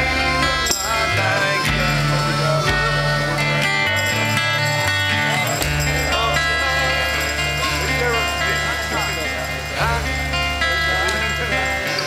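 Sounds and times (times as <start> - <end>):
band playing music: 0.0 - 12.0
bass line: 0.0 - 12.0.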